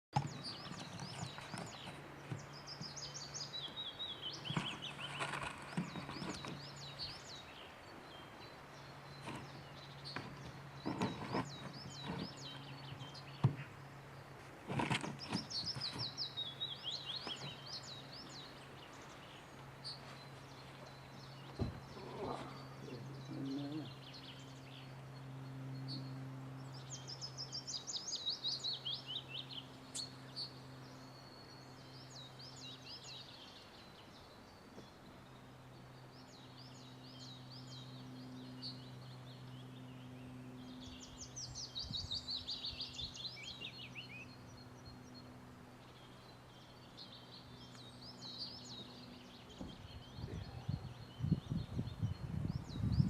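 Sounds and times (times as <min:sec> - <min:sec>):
songbirds chirping: 0:00.2 - 0:53.0.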